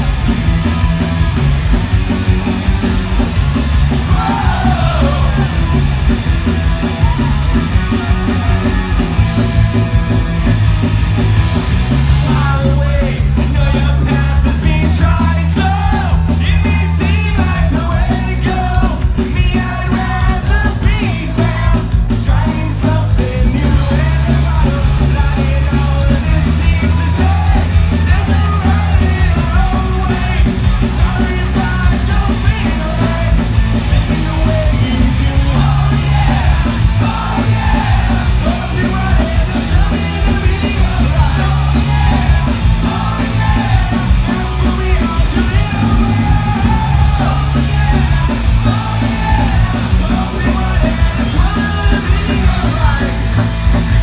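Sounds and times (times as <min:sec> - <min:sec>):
punk rock band playing live: 0:00.0 - 0:54.0
shouted lead vocal: 0:03.9 - 0:10.1, 0:12.1 - 0:54.0.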